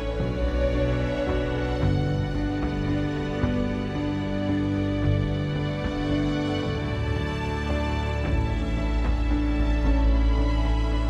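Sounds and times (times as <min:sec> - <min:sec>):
music of long held notes: 0:00.0 - 0:11.0.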